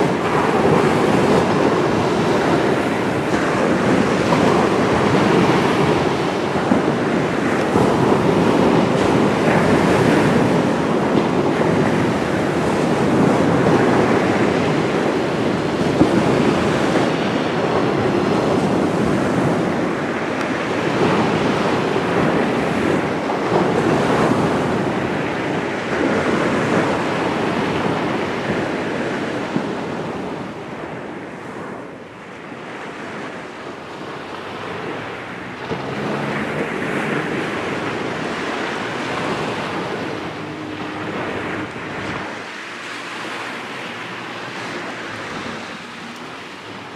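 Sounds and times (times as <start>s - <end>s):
water at shoreline: 0.0s - 46.9s
wind on microphone: 0.0s - 46.9s.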